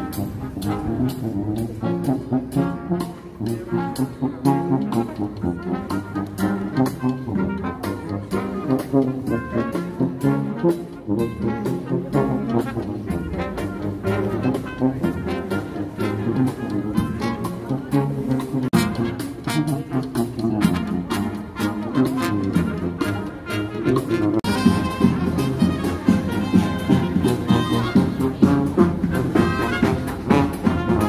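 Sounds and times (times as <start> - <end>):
brass band music: 0.0 - 31.0.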